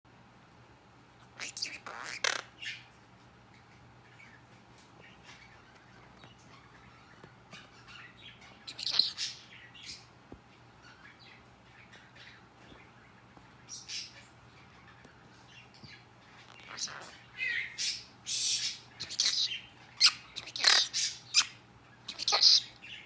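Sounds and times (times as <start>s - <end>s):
pet birds chirping: 1.2s - 23.0s.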